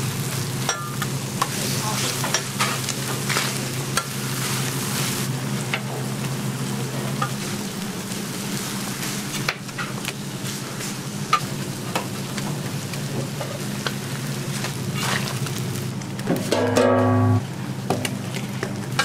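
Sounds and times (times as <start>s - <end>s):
meat sizzling on griddle: 0.0s - 19.0s.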